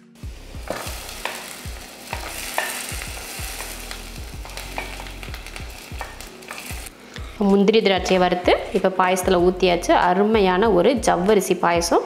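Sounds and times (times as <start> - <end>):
nuts sizzling in a pot: 0.1 - 10.0.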